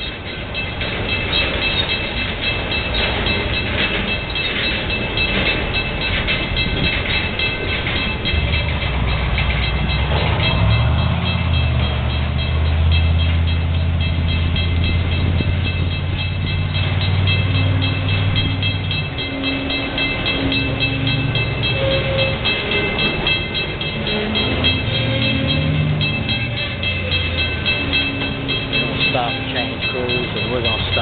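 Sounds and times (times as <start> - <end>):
crossing signal bell ringing: 0.0 - 31.0
train wheels clattering on rails: 0.0 - 31.0.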